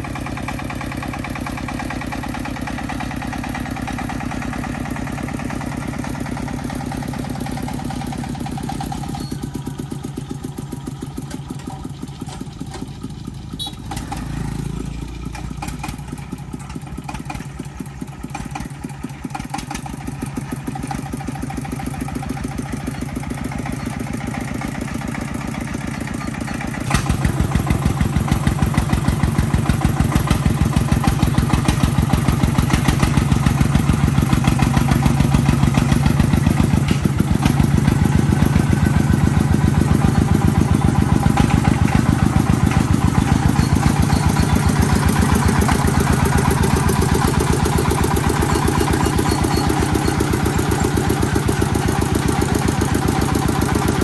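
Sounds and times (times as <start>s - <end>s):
farm vehicle engine running: 0.0s - 54.0s.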